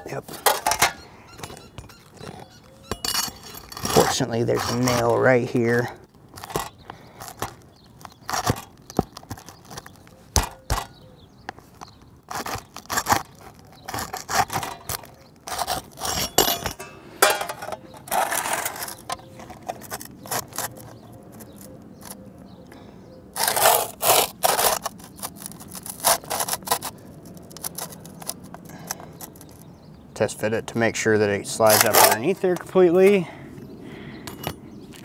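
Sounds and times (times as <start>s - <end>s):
pry bar scraping shingles: 0.1s - 22.2s, 23.4s - 30.5s, 31.2s - 33.4s
metal plate sliding on shingles: 0.3s - 11.0s, 11.6s - 22.2s, 23.4s - 29.7s, 31.5s - 33.2s.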